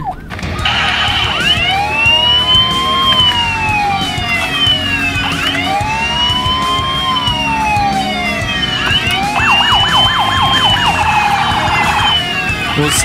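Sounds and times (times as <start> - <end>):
police siren wailing and yelping: 0.0 - 13.0
second siren sweeping: 0.0 - 13.0.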